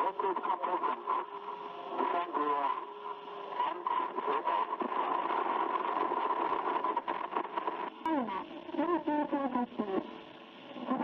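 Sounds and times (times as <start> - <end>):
garbled radio call: 0.0 - 11.0.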